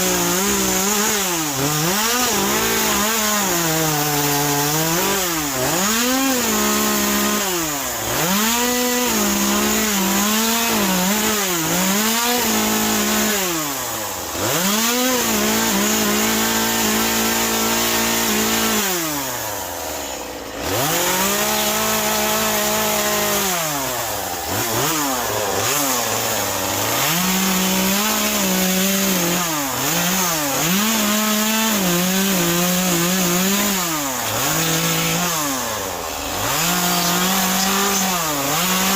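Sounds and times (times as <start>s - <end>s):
chainsaw cutting wood revving: 0.0s - 38.9s.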